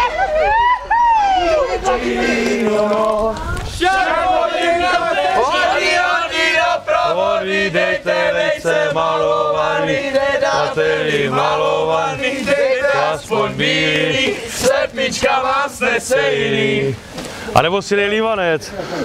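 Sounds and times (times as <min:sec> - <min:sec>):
group of men chanting: 0:01.5 - 0:17.0.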